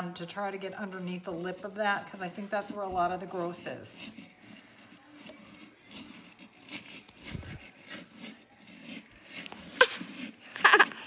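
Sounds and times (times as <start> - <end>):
brush scrubbing in garbage disposal: 0.0 - 11.0.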